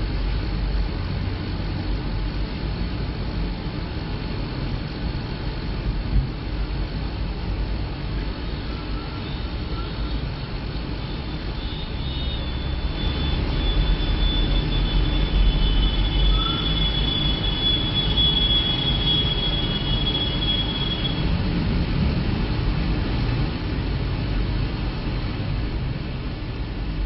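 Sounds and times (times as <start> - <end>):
tractor engines rumbling: 0.0 - 27.0.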